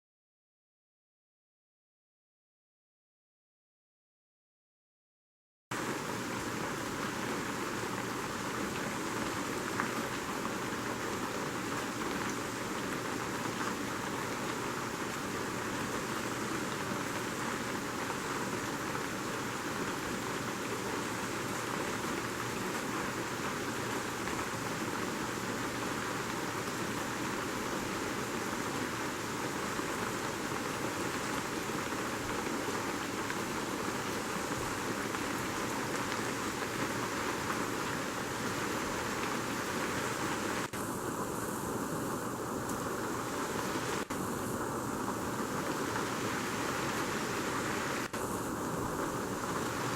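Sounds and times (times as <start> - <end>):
rain on a roof: 5.7 - 49.9.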